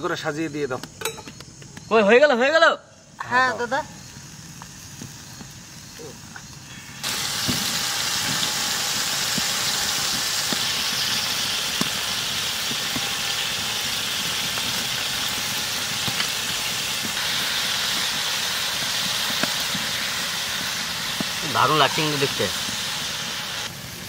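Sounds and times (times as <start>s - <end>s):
meat sizzling in oil: 3.2s - 24.0s.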